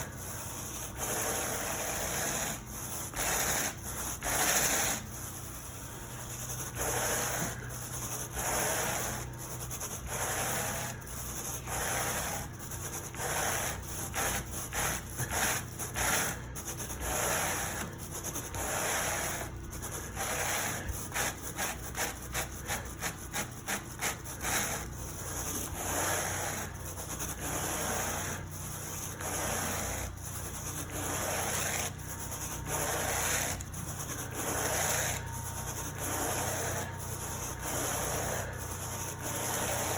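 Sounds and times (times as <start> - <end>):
carpet rake scraping carpet: 0.0 - 39.9
steady low hum: 0.0 - 39.9.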